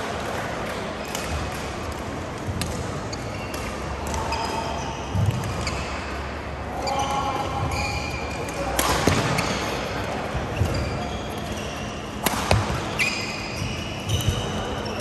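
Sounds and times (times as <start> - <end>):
murmur of the hall: 0.0 - 15.0
court shoes squeaking: 0.8 - 15.0.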